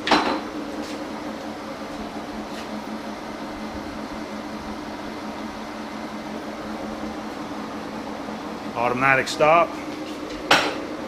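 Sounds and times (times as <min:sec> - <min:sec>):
lathe running: 0:00.0 - 0:11.0.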